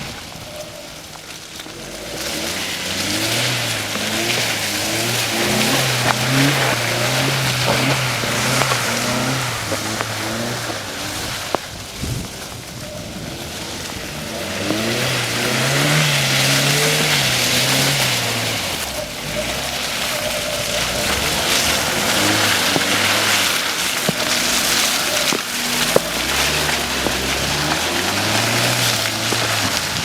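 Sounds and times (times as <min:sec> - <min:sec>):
car engine revving: 0:00.0 - 0:30.0
tyres hissing and mud spraying: 0:00.0 - 0:30.0.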